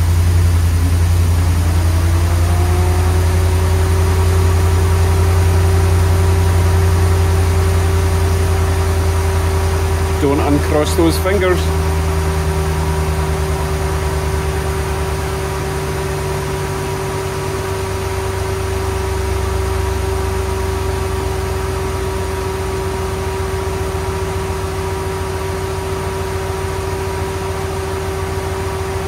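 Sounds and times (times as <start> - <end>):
car engine idling: 0.0 - 29.0
steady hum: 0.0 - 29.0.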